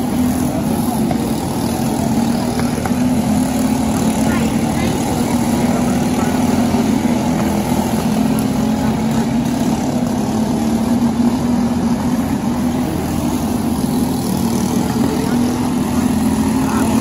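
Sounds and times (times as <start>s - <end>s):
racing kart engines humming: 0.0s - 17.0s.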